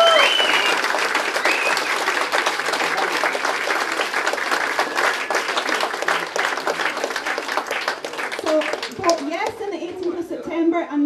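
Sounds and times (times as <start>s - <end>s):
crowd applauding: 0.0s - 10.3s.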